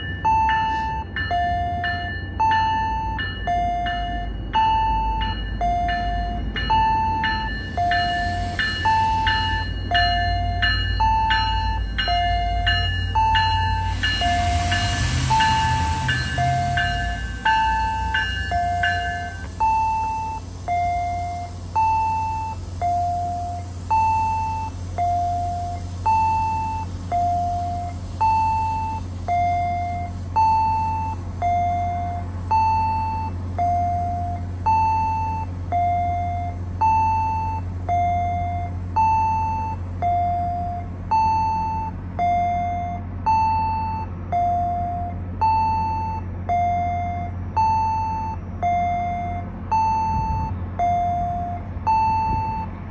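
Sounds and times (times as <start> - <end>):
two-tone electronic warning chime: 0.0 - 52.7
train idling hum: 0.0 - 52.9.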